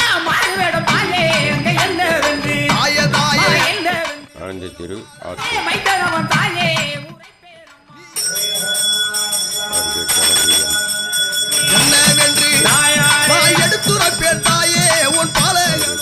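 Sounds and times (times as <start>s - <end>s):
bell ringing steadily: 0.0s - 7.4s, 8.0s - 16.0s
devotional music with singing: 0.0s - 16.0s.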